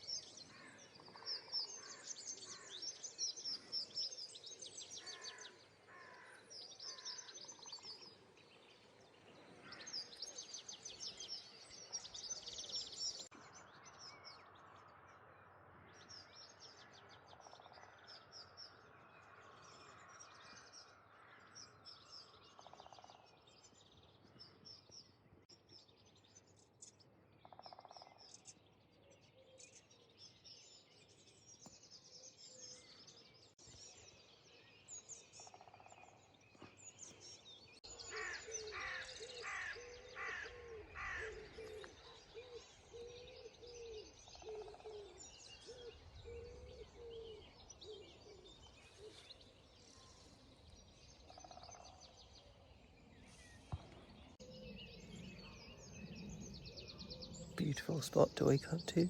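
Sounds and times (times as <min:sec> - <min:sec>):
small birds chirping: 0:00.0 - 0:14.9, 0:15.9 - 0:59.0
repeated low bird calls: 0:00.0 - 0:15.1, 0:15.9 - 0:59.0.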